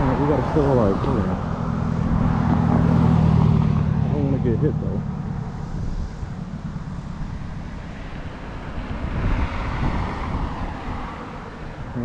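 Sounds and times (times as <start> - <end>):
passing vehicle road noise: 0.0 - 12.0
wind rumble on microphone: 0.0 - 12.0.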